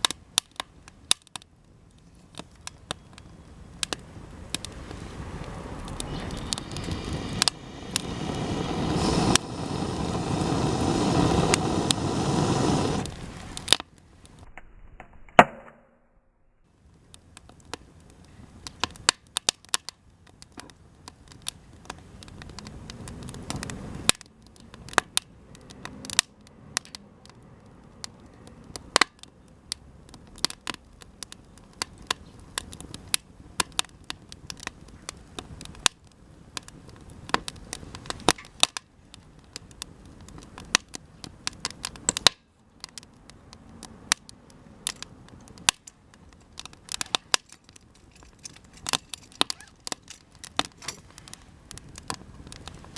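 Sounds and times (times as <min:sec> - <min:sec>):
low rush of flame: 0:00.0 - 0:15.4, 0:16.4 - 0:52.9
campfire crackling and popping: 0:00.0 - 0:15.9, 0:16.6 - 0:52.9.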